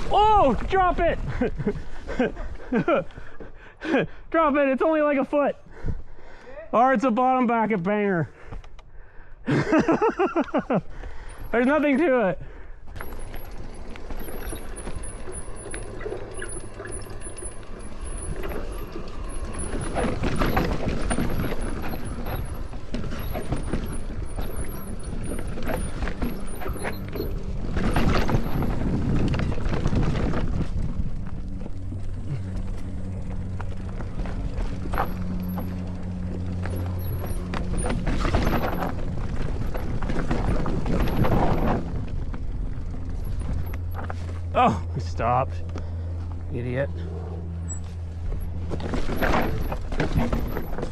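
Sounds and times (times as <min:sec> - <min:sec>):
bike rattling over bumps: 0:00.0 - 0:03.8, 0:07.1 - 0:50.9
bike tyres roaring on dirt: 0:00.0 - 0:50.9.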